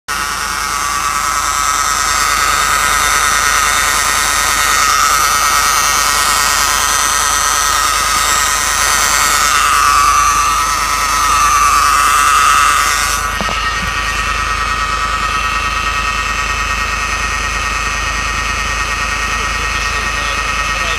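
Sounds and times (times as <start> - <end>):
high engine whine: 0.1 - 20.9.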